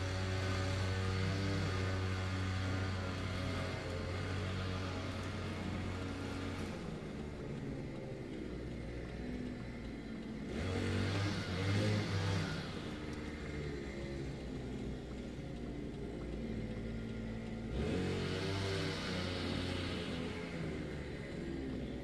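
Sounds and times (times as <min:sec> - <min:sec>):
car engine idling: 0:02.7 - 0:22.0.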